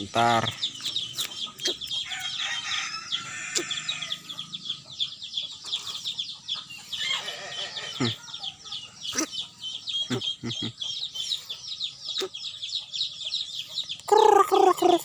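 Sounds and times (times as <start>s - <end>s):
low bird calls: 0.0s - 15.0s
many birds chirping: 0.0s - 15.0s.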